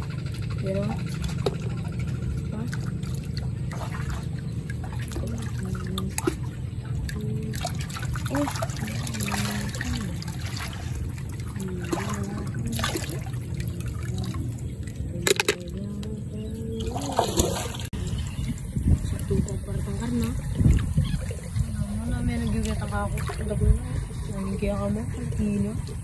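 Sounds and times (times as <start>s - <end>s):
low rumble: 0.0s - 26.0s
muddy water splashing: 0.0s - 26.0s.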